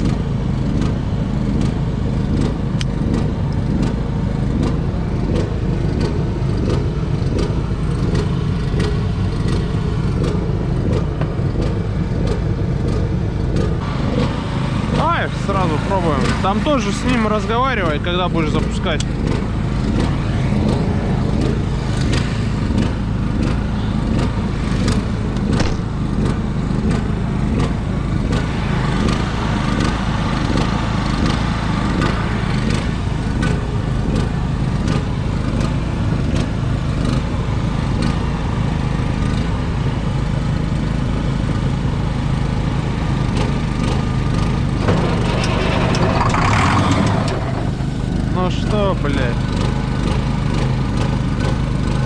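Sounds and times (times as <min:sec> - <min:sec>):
engine humming: 0:00.0 - 0:52.0.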